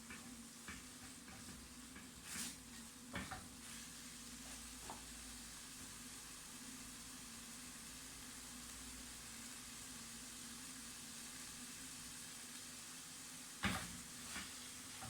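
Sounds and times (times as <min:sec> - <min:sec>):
sauce sizzling hiss: 0:00.0 - 0:15.0.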